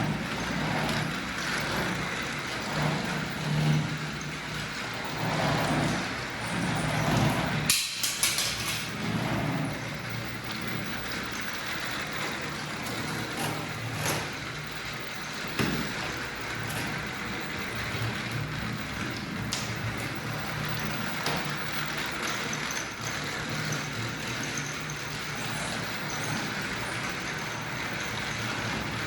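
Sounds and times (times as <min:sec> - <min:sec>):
toy train motor hum: 0:00.0 - 0:29.0.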